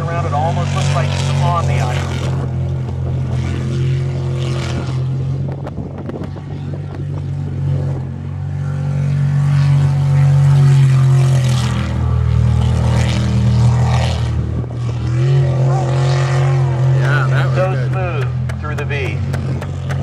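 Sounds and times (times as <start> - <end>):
boat engine running hard: 0.0 - 20.0.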